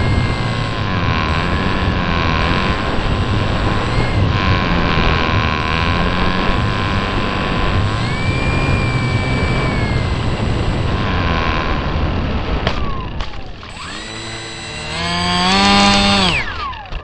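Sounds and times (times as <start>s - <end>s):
model motor whining: 0.0s - 17.0s.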